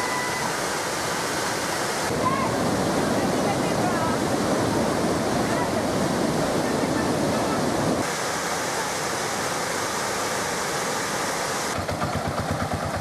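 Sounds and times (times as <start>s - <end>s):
rushing floodwater: 0.0s - 13.0s.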